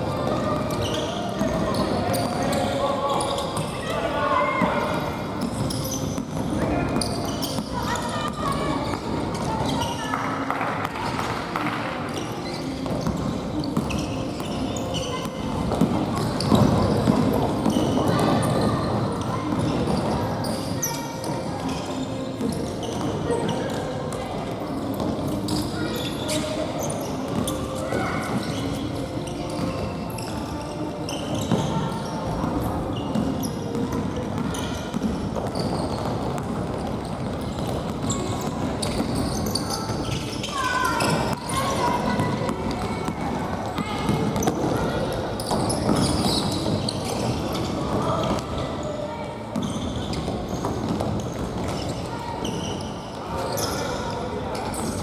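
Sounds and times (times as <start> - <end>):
shoes squeaking on court: 0.0 - 55.0.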